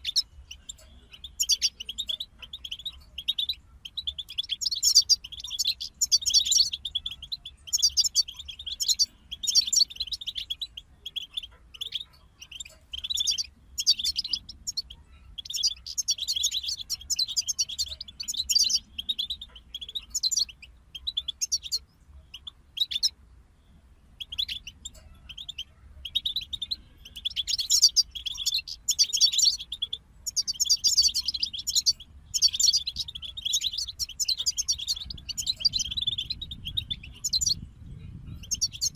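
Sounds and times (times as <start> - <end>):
goldfinches twittering: 0.0 - 23.2, 24.1 - 37.6, 38.2 - 38.9.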